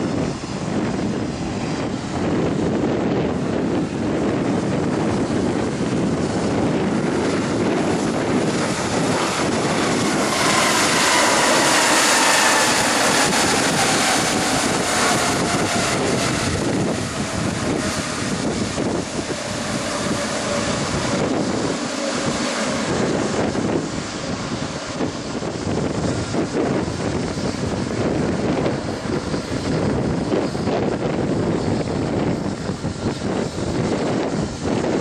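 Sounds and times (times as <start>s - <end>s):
jet engines whining and rushing: 0.0s - 35.0s
wind buffeting microphone: 0.0s - 35.0s.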